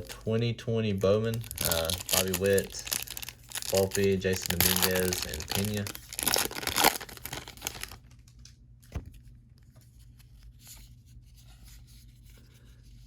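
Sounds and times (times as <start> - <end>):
cards rustling and clicking: 0.0 - 12.6.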